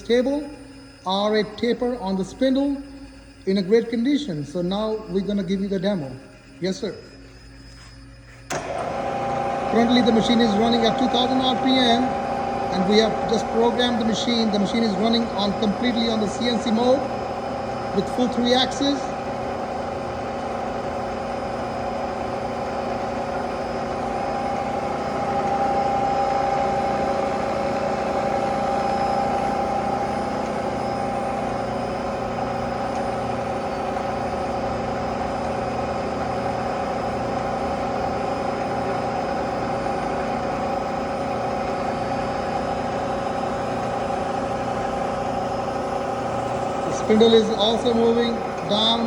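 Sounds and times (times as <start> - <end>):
milling machine humming: 0.0 - 49.0.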